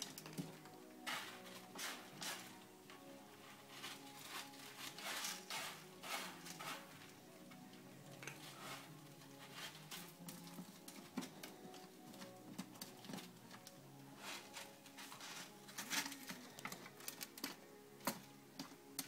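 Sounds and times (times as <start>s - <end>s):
soft scratchy rustles: 0.0s - 7.2s, 7.8s - 17.3s
faint background music: 0.0s - 19.0s.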